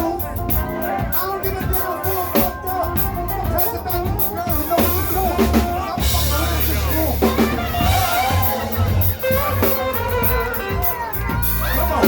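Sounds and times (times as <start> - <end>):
bass line: 0.0 - 12.0
drum kit beat: 0.0 - 12.0
guitar: 0.0 - 12.0.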